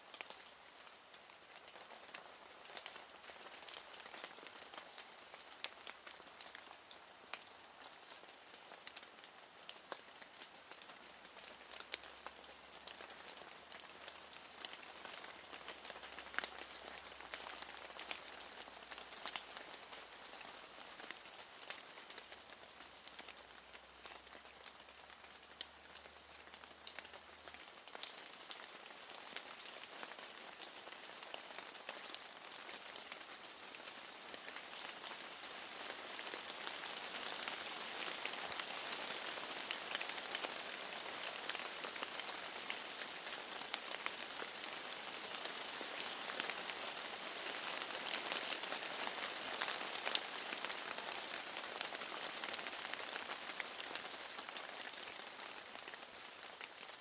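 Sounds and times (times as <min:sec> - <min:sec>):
rain against a window: 0:00.0 - 0:57.0.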